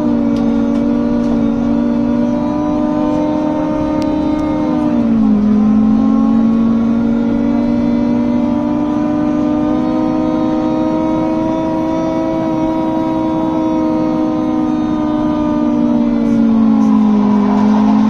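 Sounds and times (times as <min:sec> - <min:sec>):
bus fans humming drone: 0:00.0 - 0:18.0.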